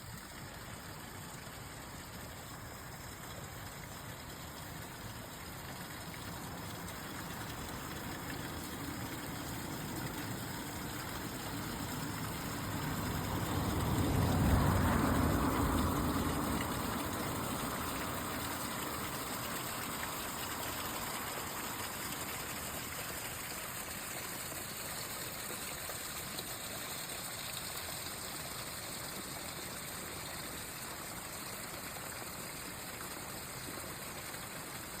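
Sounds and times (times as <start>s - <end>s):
stream running over roots: 0.0s - 35.0s.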